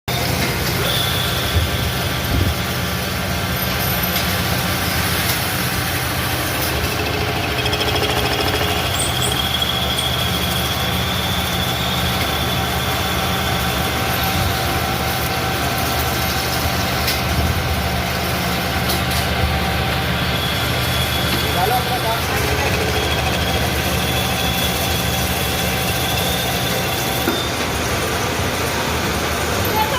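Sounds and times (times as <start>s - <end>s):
high machine whine: 0.1s - 29.9s.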